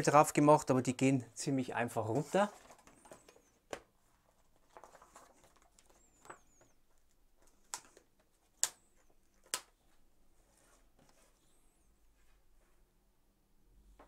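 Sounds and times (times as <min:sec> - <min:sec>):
soft paper rustling: 0:00.9 - 0:13.0.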